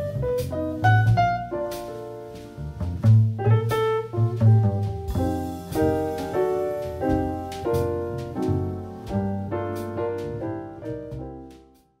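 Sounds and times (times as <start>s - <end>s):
light percussion: 0.0s - 11.9s
piano chords: 0.0s - 11.9s.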